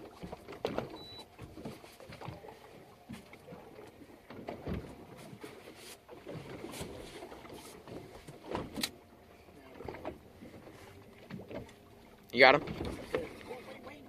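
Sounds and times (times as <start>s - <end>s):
knocks and thumps on boat: 0.0s - 14.0s.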